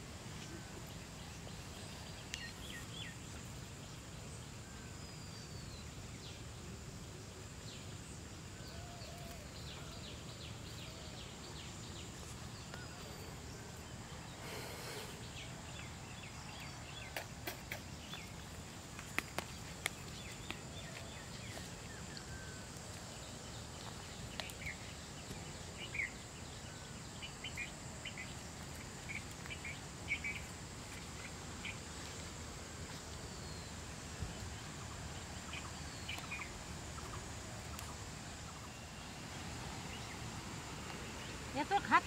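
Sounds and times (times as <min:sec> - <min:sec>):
faint background hiss: 0:00.0 - 0:42.0.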